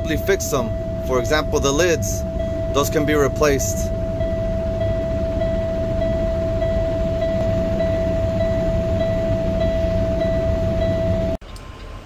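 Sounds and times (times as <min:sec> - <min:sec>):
warning buzzer high tone: 0:00.0 - 0:11.4
diesel engine idling: 0:00.0 - 0:12.0.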